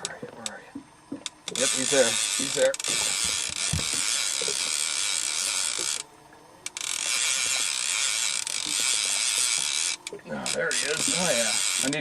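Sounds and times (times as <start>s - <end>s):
fishing reel ratcheting whir: 1.2s - 12.0s.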